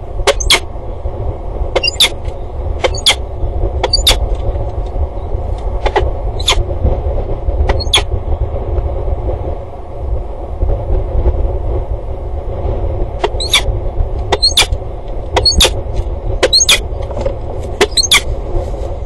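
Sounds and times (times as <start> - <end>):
hum: 0.0 - 19.0
steady low rumble: 0.0 - 19.0.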